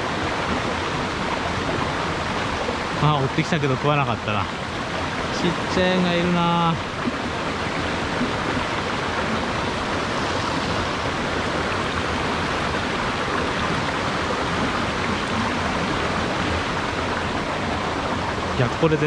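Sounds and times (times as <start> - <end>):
stream rushing over boulders: 0.0 - 19.0.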